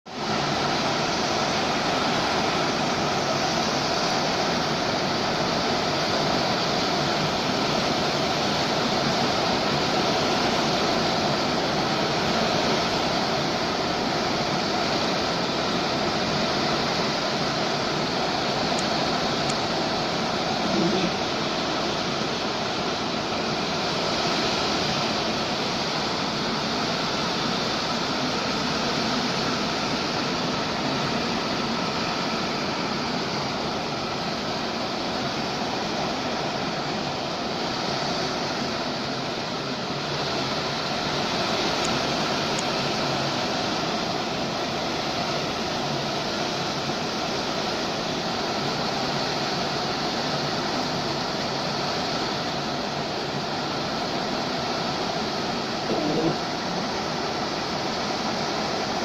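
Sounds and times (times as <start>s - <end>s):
heavy rain and wind rushing: 0.1s - 59.0s.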